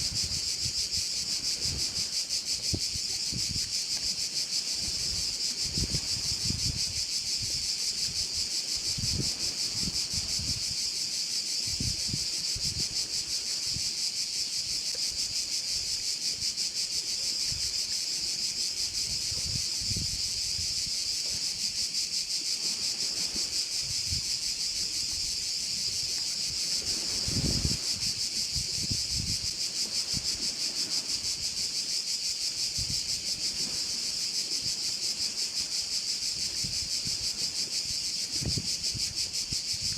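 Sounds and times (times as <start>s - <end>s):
insects buzzing: 0.0s - 39.9s
wind gusts on microphone: 0.0s - 39.9s.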